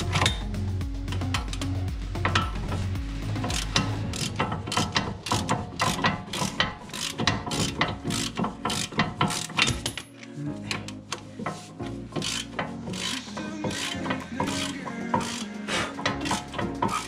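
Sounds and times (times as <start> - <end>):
socket ratchet clicking: 0.0 - 10.2, 10.8 - 17.0.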